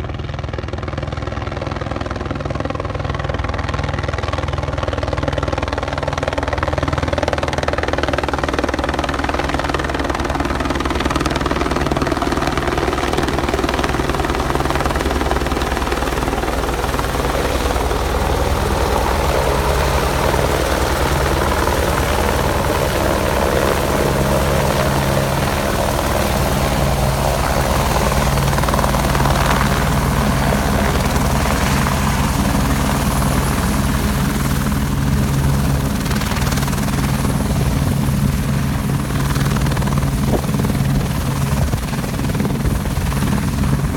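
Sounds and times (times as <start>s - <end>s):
helicopter rotor beating: 0.0s - 43.9s.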